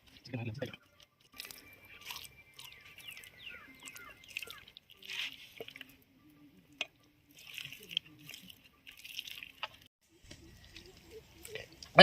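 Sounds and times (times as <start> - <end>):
wet squishing of hands in paste: 0.9 - 12.0.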